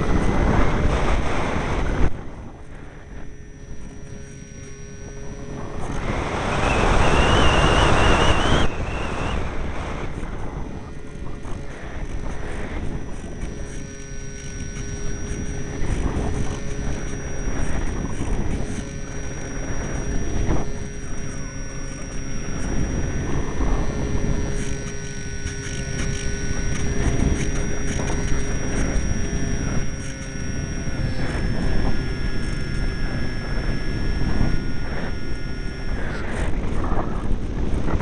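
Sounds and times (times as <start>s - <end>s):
faint high whine: 0.0s - 38.0s.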